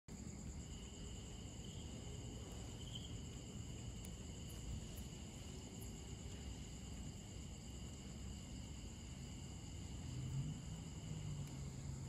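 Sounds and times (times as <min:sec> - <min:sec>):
crickets trilling: 0:00.1 - 0:12.0.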